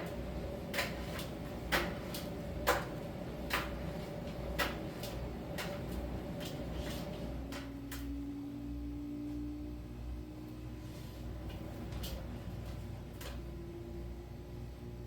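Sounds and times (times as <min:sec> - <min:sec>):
dryer humming: 0:00.0 - 0:15.0.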